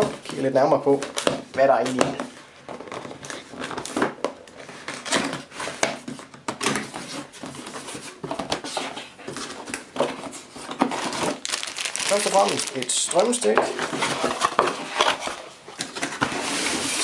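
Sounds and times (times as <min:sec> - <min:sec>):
cardboard box being opened: 0:02.8 - 0:17.0.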